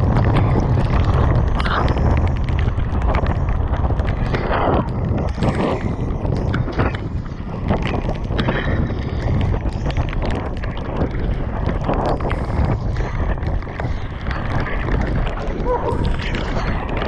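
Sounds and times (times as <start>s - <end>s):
bike clattering over bumps: 0.0s - 17.0s
tyres running through mud: 0.0s - 17.0s
wind buffeting camera: 0.0s - 17.0s.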